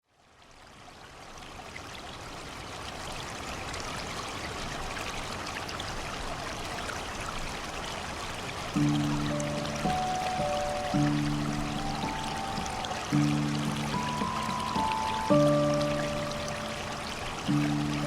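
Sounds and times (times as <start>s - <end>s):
stream water babbling: 0.2s - 18.0s.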